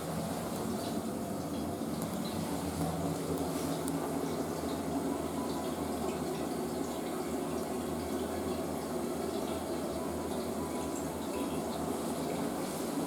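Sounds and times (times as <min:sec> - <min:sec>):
toilet tank refilling: 0:00.0 - 0:13.0.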